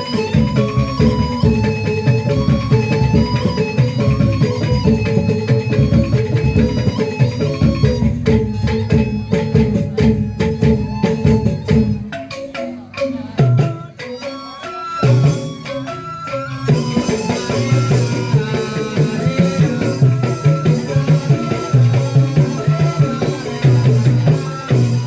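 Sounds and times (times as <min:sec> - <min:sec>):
hand drum playing: 0:00.0 - 0:14.2, 0:15.0 - 0:25.0
held pitched instrument notes: 0:00.0 - 0:25.0.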